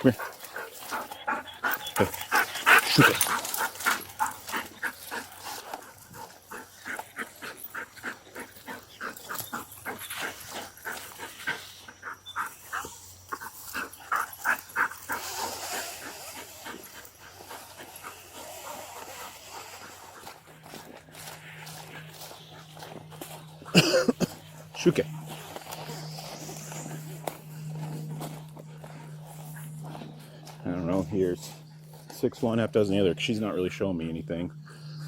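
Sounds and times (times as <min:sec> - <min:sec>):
dog panting: 0:00.0 - 0:35.0.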